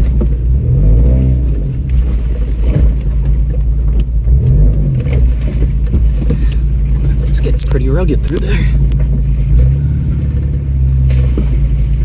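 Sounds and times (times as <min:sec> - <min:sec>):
truck engine working: 0:00.0 - 0:12.0.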